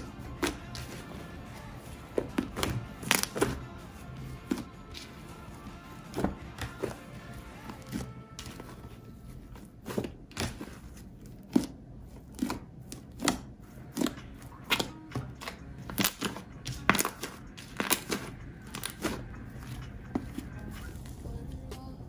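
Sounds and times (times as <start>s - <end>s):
slime squelching by hand: 0.0s - 21.8s.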